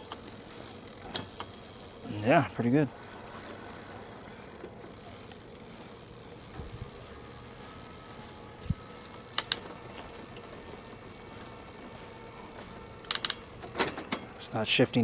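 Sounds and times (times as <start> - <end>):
bicycle mechanical clicks: 0.0 - 15.0
steady background hum: 0.0 - 15.0.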